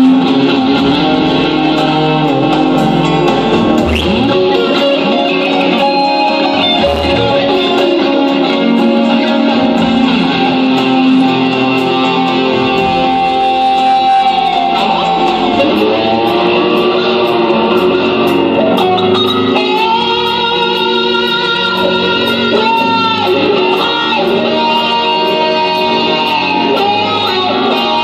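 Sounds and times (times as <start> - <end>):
electric lead guitar bending notes: 0.0 - 28.0
rock band backing: 0.0 - 28.0.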